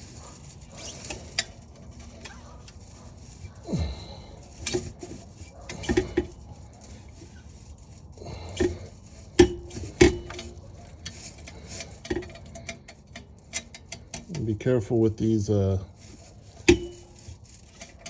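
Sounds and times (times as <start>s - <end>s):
metal exhaust pipe clanking: 0.0s - 14.6s, 16.1s - 18.0s.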